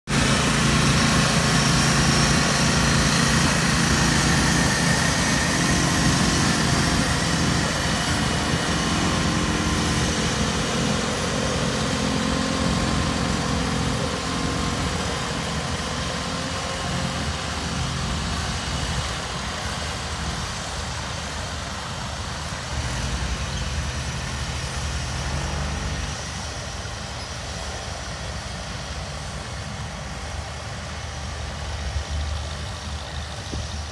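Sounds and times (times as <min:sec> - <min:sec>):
tractor engines under load: 0:00.0 - 0:33.9.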